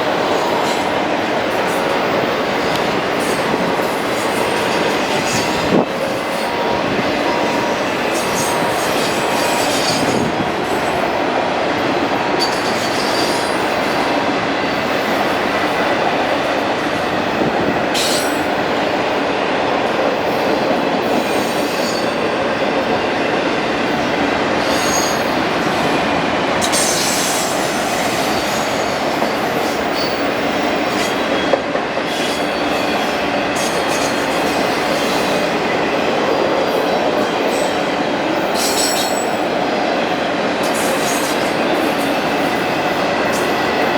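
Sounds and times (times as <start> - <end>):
freight train rolling past: 0.0 - 43.9.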